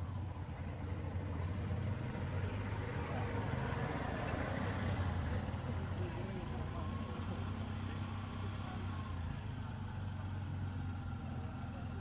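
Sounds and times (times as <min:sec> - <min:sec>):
motorbike passing: 0:00.0 - 0:12.0.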